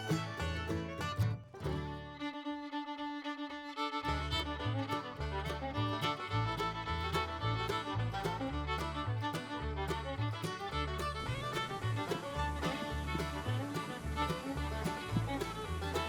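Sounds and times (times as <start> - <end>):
fiddle-led bluegrass music: 0.0 - 16.0.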